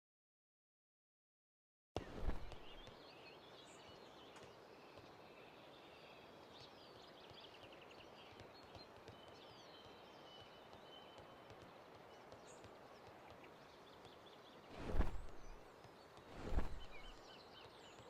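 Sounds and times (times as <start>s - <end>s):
small birds chirping: 2.0s - 18.0s.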